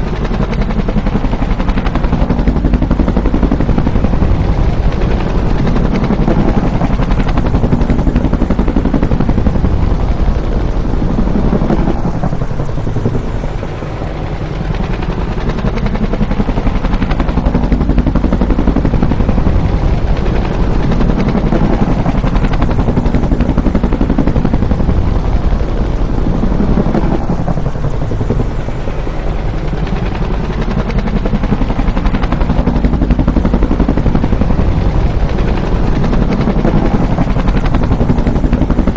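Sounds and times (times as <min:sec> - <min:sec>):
helicopter rotor thumping: 0:00.0 - 0:38.9.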